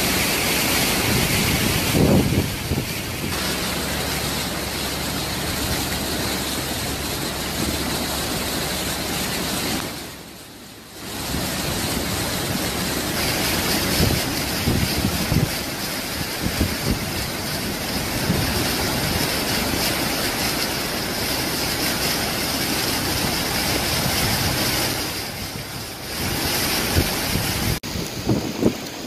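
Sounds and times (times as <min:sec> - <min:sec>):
wind buffeting microphone: 0:00.0 - 0:07.9, 0:11.1 - 0:29.0
storm wind: 0:00.0 - 0:10.2, 0:11.0 - 0:29.0
rushing water: 0:00.0 - 0:29.0.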